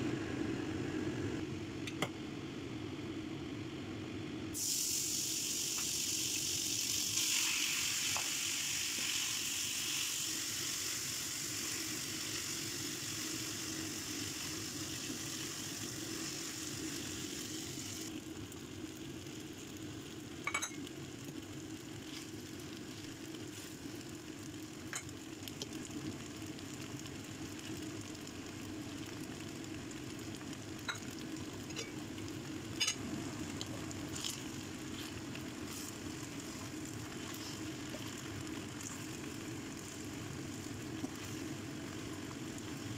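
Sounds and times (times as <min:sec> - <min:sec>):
noodles sizzling in oil: 0:04.4 - 0:42.9.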